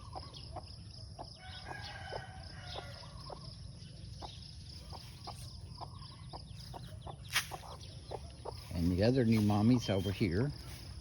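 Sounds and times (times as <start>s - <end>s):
hen clucking softly: 0.0s - 9.8s.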